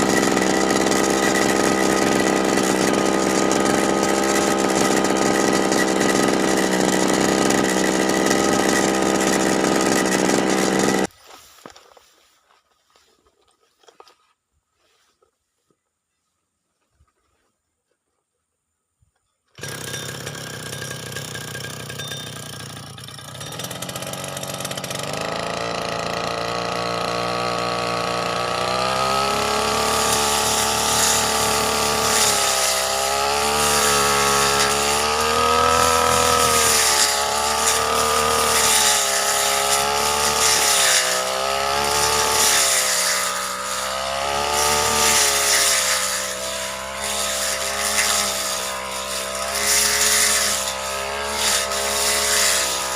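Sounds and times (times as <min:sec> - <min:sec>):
brush cutter engine revving: 0:00.0 - 0:11.2, 0:19.5 - 0:52.9.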